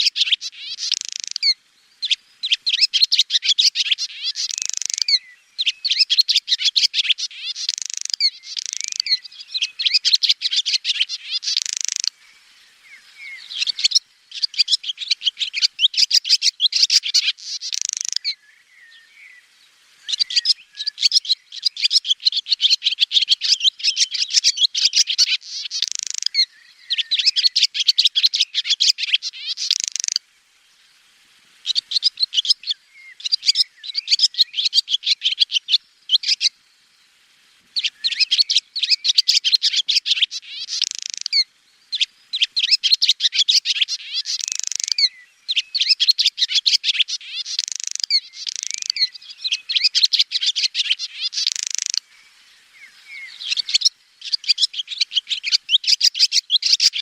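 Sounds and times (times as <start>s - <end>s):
swallow twittering: 0.0s - 19.3s, 20.0s - 30.2s, 31.6s - 36.6s, 37.8s - 57.0s.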